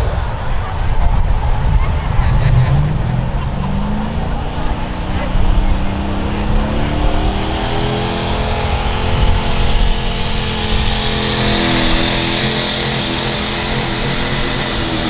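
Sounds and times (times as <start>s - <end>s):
diesel truck engine revving hard: 2.2s - 15.0s.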